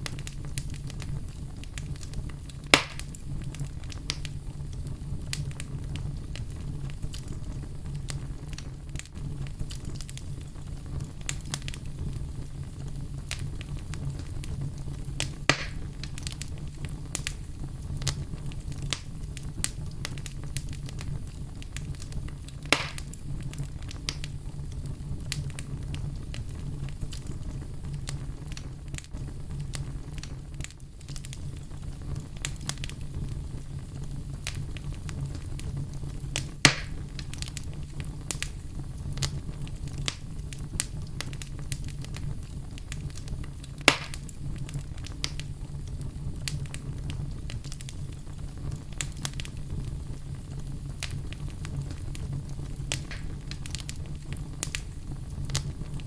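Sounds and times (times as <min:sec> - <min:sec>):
fire popping sharply: 0:00.0 - 0:56.0
fire rumbling and crackling: 0:00.0 - 0:56.0.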